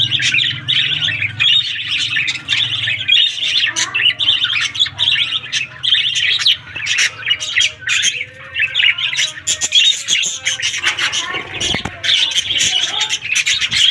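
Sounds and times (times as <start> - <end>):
birds chirping and squawking: 0.0 - 13.9.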